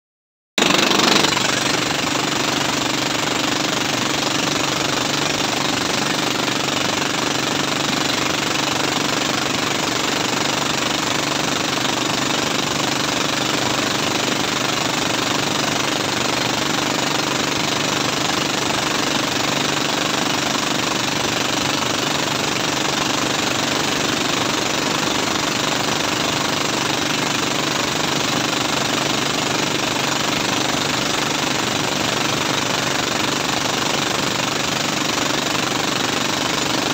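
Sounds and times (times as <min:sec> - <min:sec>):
boat engine running: 0:00.6 - 0:36.9.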